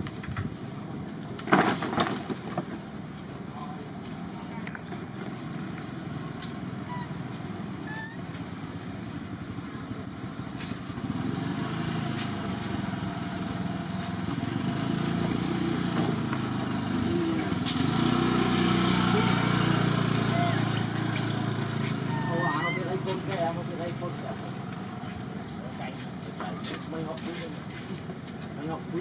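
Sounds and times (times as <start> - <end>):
motor engine running: 4.5 - 29.0.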